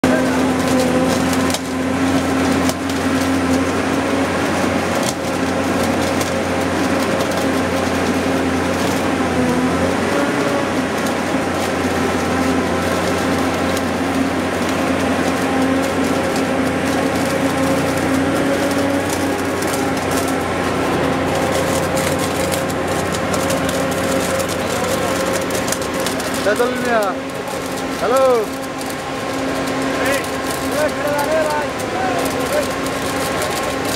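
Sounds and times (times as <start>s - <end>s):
electric arc crackling: 0.0s - 33.9s
loud machine hum: 0.0s - 33.9s.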